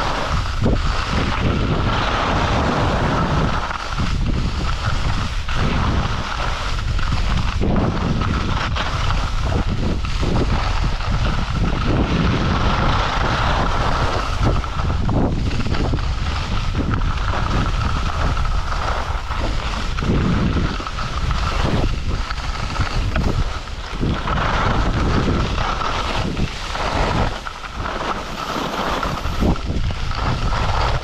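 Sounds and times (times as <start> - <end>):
skis scraping over snow: 0.0 - 31.0
wind buffeting microphone: 0.0 - 31.0.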